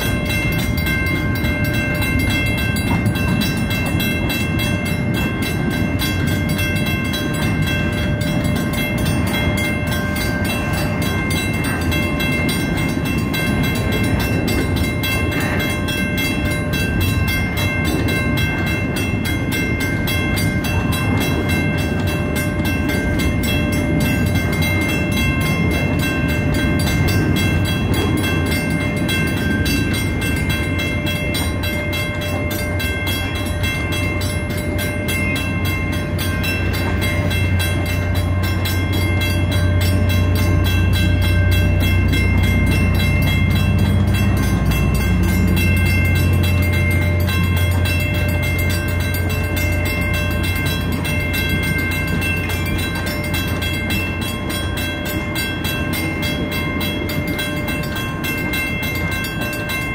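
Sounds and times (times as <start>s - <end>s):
crossing bell ringing: 0.0s - 59.9s
train wheels rumbling on rails: 0.0s - 59.9s.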